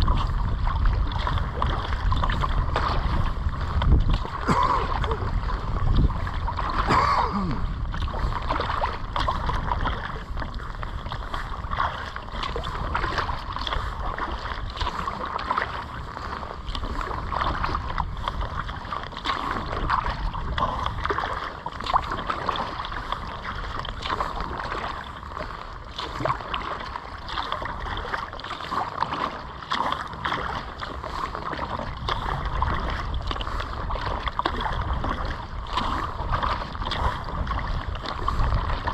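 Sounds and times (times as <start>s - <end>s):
kayak paddle strokes in water: 0.0s - 38.9s
water lapping at hull: 0.0s - 38.9s
water splashing: 0.0s - 38.9s.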